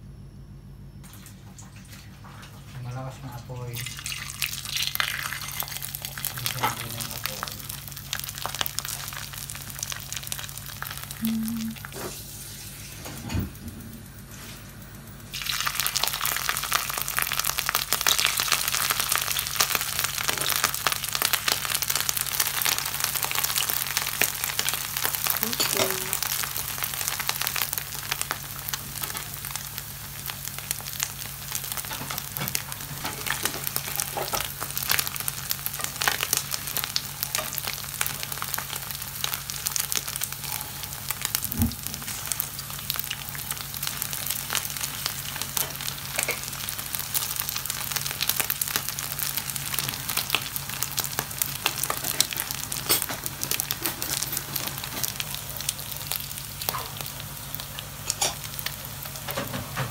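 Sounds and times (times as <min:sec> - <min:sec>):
low steady hum: 0:00.0 - 0:59.9
fish skin sizzling in oil: 0:03.5 - 0:13.0, 0:14.2 - 0:59.9.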